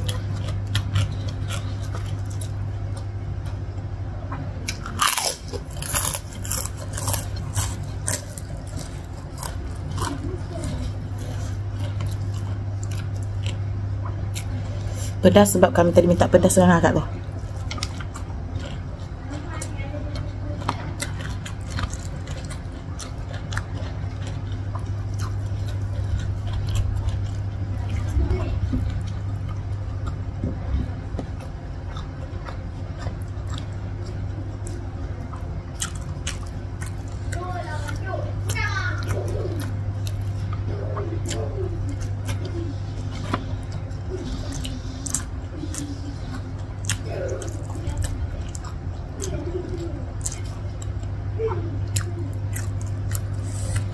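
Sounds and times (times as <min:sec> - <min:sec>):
person chewing food: 0:00.0 - 0:53.9
steady low hum: 0:00.0 - 0:53.9.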